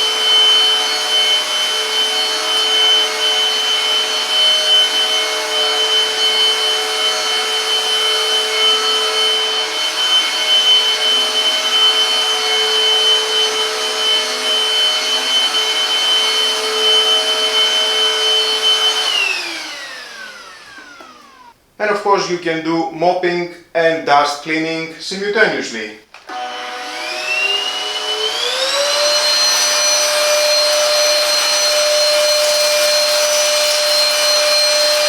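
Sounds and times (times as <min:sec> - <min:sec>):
handheld vacuum cleaner whine: 0:00.0 - 0:21.6, 0:26.1 - 0:35.0.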